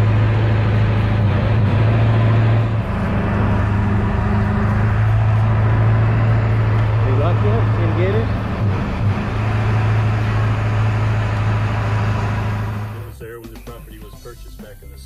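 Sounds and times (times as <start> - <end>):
truck engine low drone: 0.0 - 15.0.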